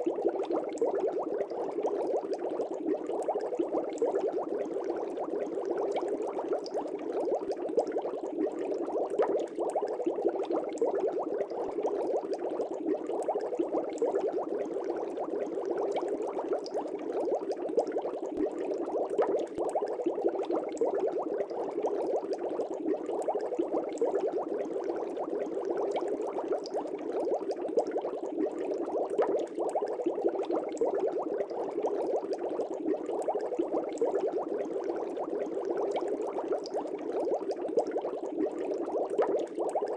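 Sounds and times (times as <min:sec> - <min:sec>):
aerator bubbles in water: 0:00.0 - 0:39.9.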